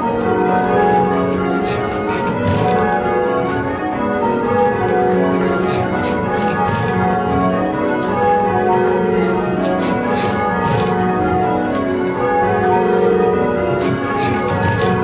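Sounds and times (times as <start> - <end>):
church bells change ringing: 0.0 - 15.0.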